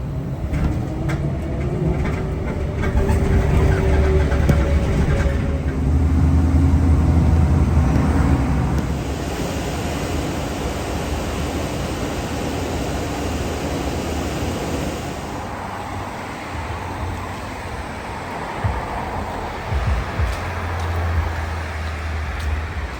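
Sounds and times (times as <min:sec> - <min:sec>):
diesel truck passing: 0:00.0 - 0:22.9
road traffic noise: 0:00.0 - 0:22.9.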